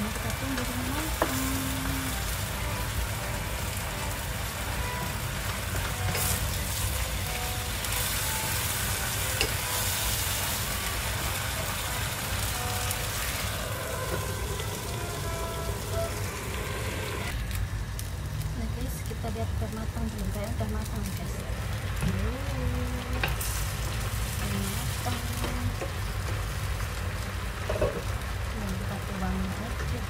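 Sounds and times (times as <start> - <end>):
meat and vegetables sizzling in pan: 0.0 - 30.0.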